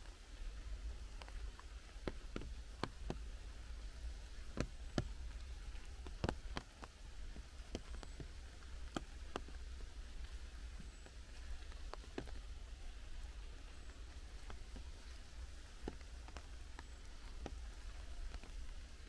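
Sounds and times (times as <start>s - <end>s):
drops falling from trees: 0.0s - 19.0s
light rain hiss: 0.0s - 19.0s.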